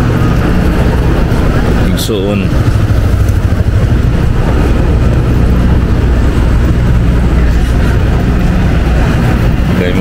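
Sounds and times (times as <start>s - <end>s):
large engine droning: 0.0s - 10.0s.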